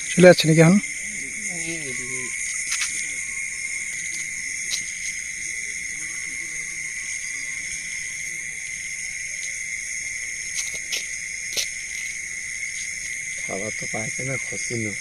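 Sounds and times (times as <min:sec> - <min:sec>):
crickets and insects droning: 0:00.0 - 0:15.0.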